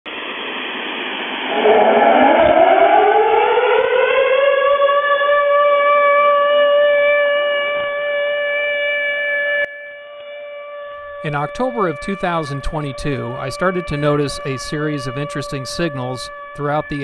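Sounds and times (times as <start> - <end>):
siren winding up: 0.1 - 17.0.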